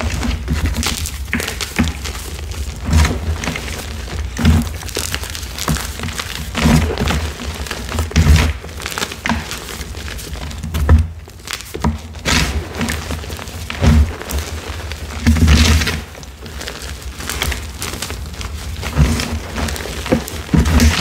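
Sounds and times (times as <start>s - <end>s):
chalk lumps crunching: 0.0s - 10.7s, 11.3s - 21.0s.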